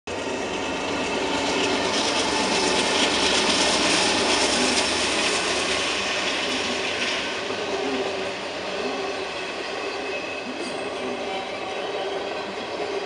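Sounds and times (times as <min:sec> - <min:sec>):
steel wheels on rail: 0:00.1 - 0:13.0
train passing at speed: 0:00.1 - 0:13.0.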